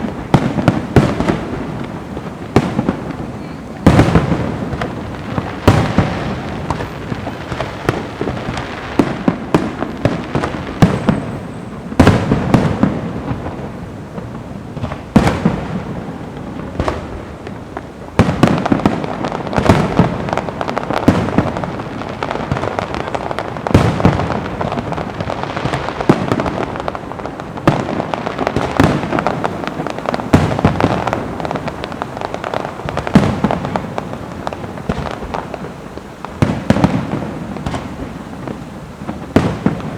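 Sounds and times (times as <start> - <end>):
fireworks booming: 0.0 - 39.9
fireworks crackling: 0.0 - 39.9.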